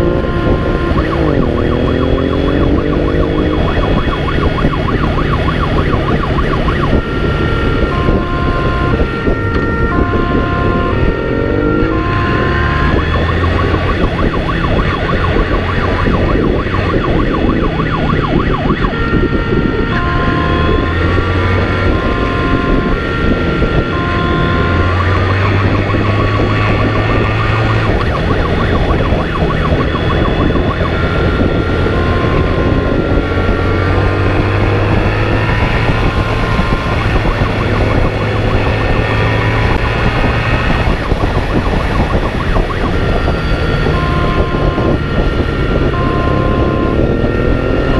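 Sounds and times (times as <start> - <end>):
motorcycle engine revving: 0.0 - 47.9
two-tone siren: 0.0 - 47.9
wind noise: 0.0 - 47.9.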